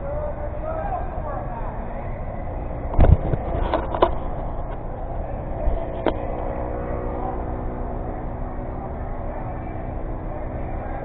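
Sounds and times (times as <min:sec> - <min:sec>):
low hum of indoor hall: 0:00.0 - 0:11.0.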